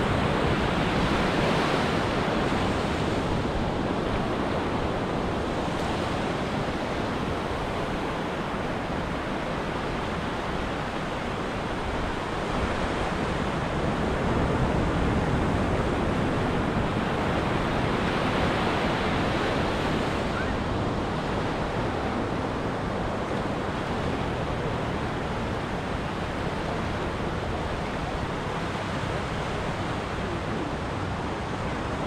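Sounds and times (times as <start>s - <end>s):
ocean waves breaking on beach: 0.0s - 32.0s.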